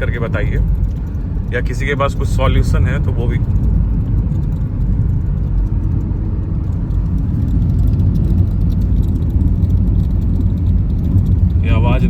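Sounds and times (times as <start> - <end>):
dashboard rattle: 0.0 - 12.0
road and engine rumble: 0.0 - 12.0.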